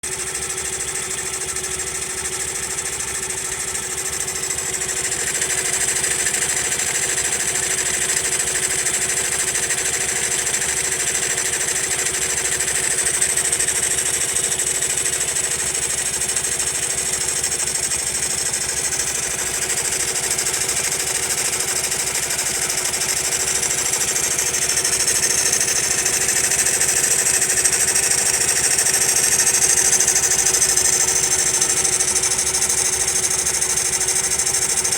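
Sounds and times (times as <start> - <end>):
abnormal mechanical engine noise: 0.0 - 34.9
small engine idling: 0.0 - 34.9.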